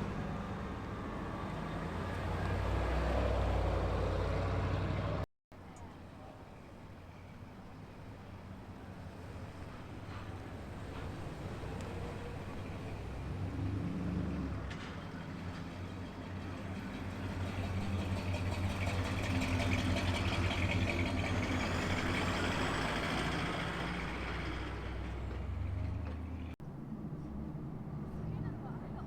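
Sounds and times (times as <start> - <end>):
car engine driving by slowly: 0.0 - 5.3, 7.7 - 29.0.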